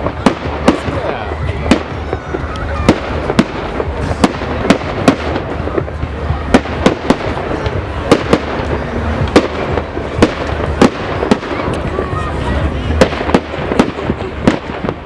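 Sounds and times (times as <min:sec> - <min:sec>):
continuous rumble: 0:00.0 - 0:15.0
fireworks bangs and crackling: 0:00.0 - 0:15.0.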